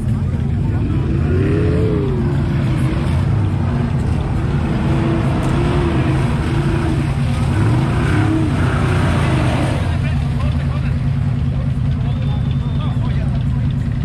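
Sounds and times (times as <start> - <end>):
off-road truck engine revving: 0.0 - 14.0.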